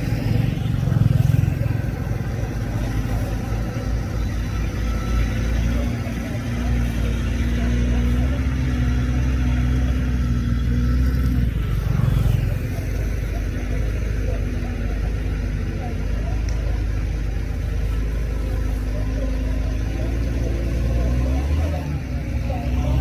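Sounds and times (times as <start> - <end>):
heavy machinery diesel engine drone: 0.0 - 23.0.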